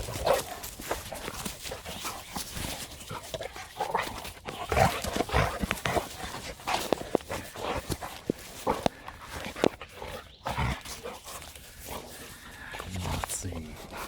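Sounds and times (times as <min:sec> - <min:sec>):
dogs thumping and scuffling: 0:00.0 - 0:14.0.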